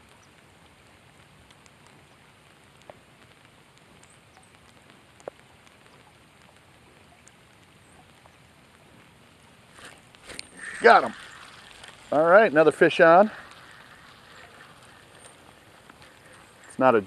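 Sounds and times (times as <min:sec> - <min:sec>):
rain falling on water: 0:00.0 - 0:17.0.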